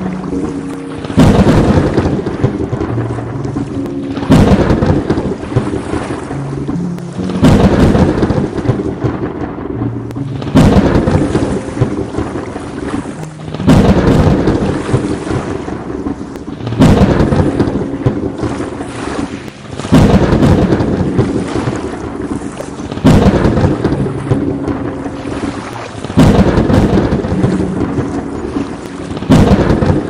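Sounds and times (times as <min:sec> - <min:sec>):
steady rain: 0:00.0 - 0:30.0
thunderclaps rumbling: 0:00.0 - 0:30.0.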